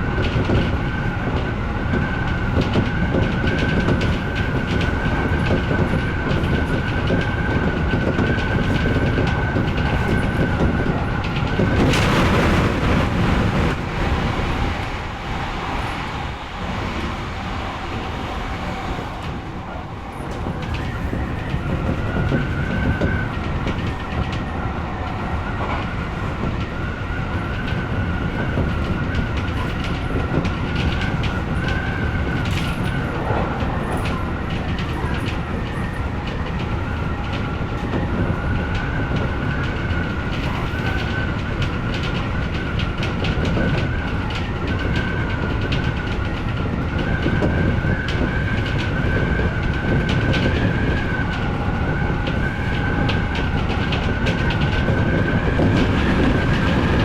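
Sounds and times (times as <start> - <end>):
electric train running: 0.0 - 57.0
high whine of train: 0.0 - 57.0.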